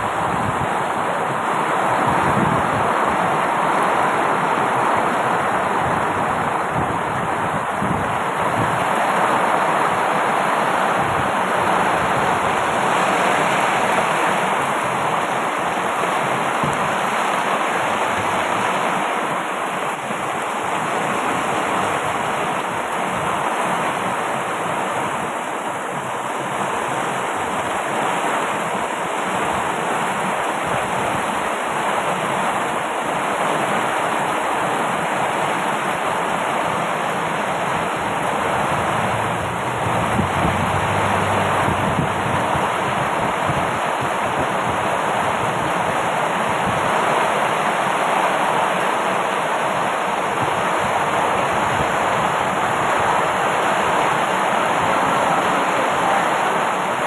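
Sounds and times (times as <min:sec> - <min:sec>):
heavy rain pouring: 0:00.0 - 0:57.0
strong wind: 0:00.0 - 0:57.0.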